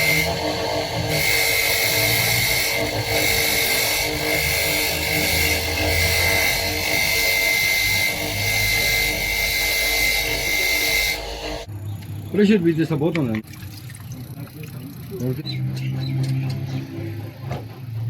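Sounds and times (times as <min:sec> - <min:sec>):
workshop machine whining: 0:00.0 - 0:13.2, 0:13.9 - 0:18.0.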